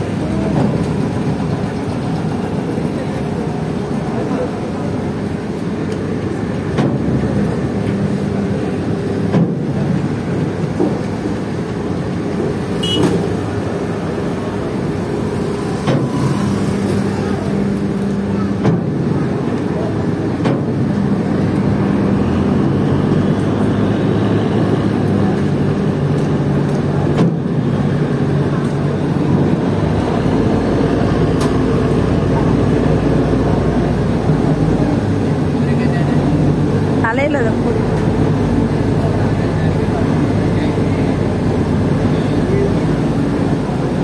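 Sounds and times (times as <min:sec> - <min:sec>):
ferry engine drone: 0:00.0 - 0:44.0
vehicles driving across deck: 0:00.0 - 0:44.0.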